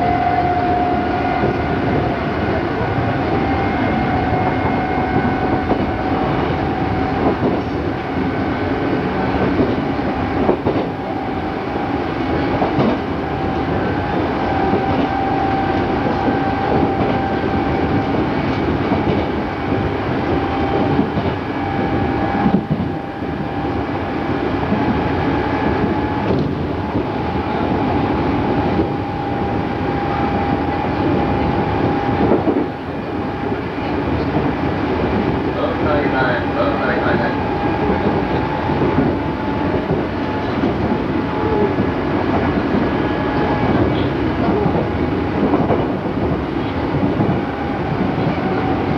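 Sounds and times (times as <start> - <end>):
train car rumble: 0.0 - 48.9.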